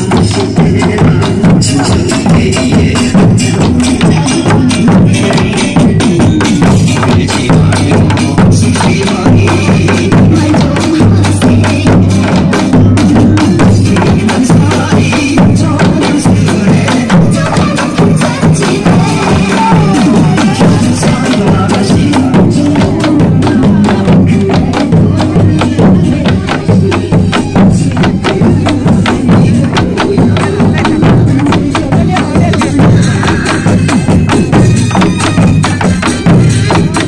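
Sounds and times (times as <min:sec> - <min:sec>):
group of drums beating: 0:00.0 - 0:37.0.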